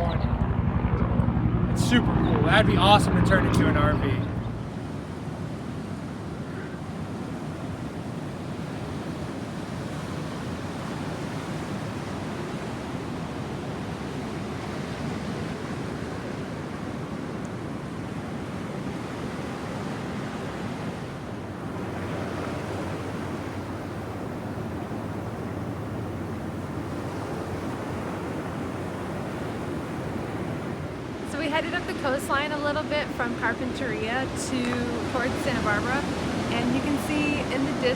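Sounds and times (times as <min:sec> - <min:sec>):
ocean surf washing ashore: 0:00.0 - 0:37.9
wind on microphone: 0:00.0 - 0:37.9.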